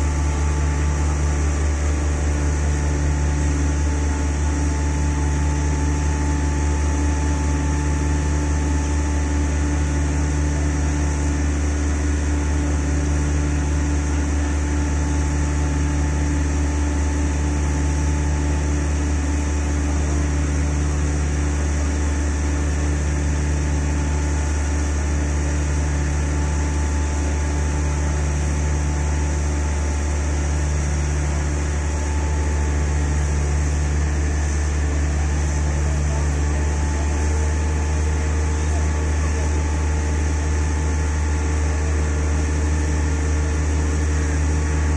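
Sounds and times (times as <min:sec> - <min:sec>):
heavy machinery low drone: 0:00.0 - 0:44.9.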